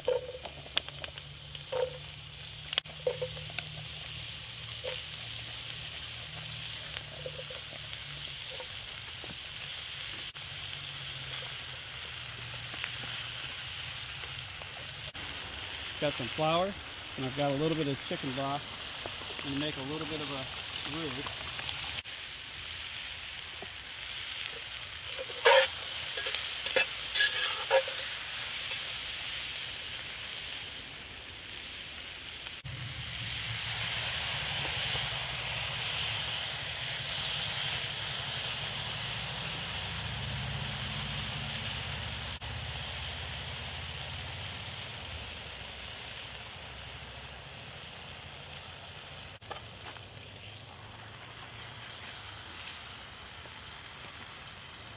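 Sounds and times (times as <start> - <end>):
broth bubbling in pot: 0.0 - 54.9
vegetables sizzling in oil: 0.0 - 54.9.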